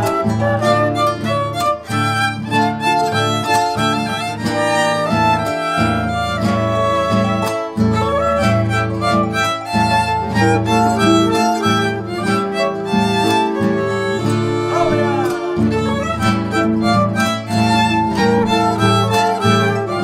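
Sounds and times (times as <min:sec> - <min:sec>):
strummed guitars: 0:00.0 - 0:20.0
violin melody: 0:00.0 - 0:20.0.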